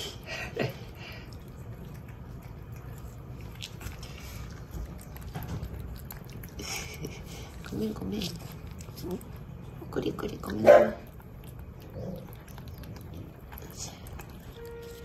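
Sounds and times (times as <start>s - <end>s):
cats licking wet smacking: 0.0s - 15.0s.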